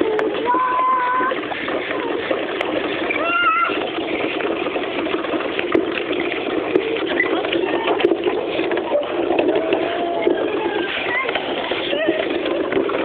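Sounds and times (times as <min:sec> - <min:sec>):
wooden toy car rattling: 0:00.0 - 0:13.0.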